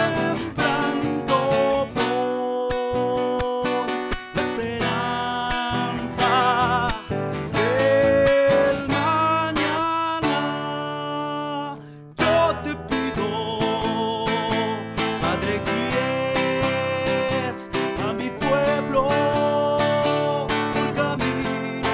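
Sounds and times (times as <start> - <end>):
strummed acoustic guitar: 0.0 - 21.9.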